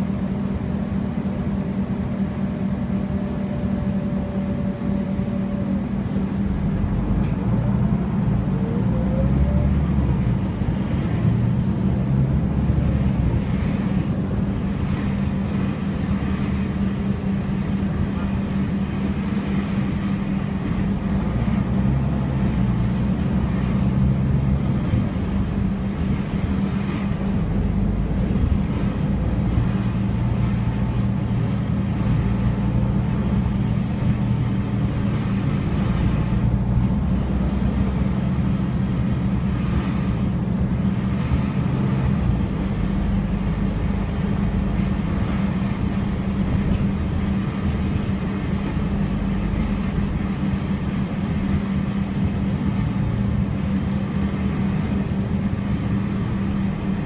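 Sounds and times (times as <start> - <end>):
bus engine hum: 0.0 - 57.0
road noise: 0.0 - 57.0.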